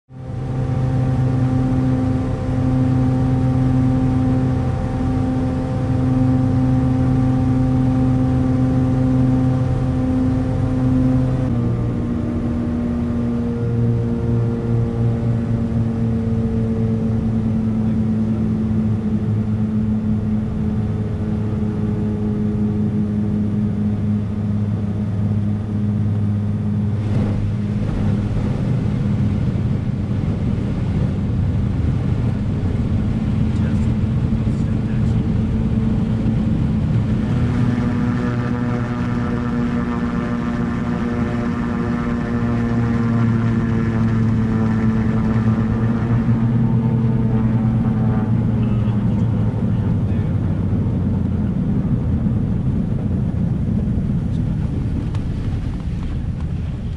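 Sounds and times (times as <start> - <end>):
propeller plane engine droning: 0.1 - 56.9.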